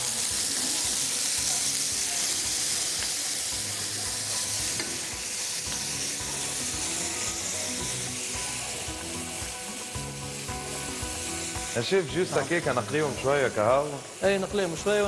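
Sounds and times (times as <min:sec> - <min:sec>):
seafood sizzling in oil: 0:00.0 - 0:15.0
utensil stirring in pan: 0:00.0 - 0:15.0.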